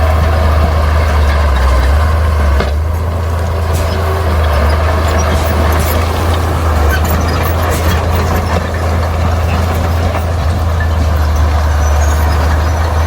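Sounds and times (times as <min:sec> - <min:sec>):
bulldozer diesel engine droning: 0:00.0 - 0:13.0.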